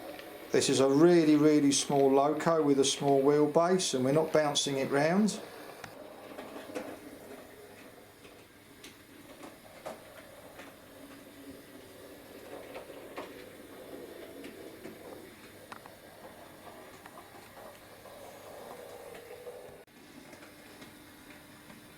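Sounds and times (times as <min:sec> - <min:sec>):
model train motor whir: 0:00.0 - 0:19.9
wheels clicking over rail joints: 0:00.0 - 0:21.9.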